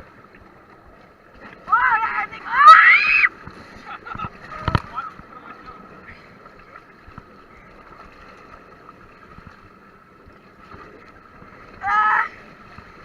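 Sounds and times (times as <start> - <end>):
muffled water noise: 0.0 - 13.0.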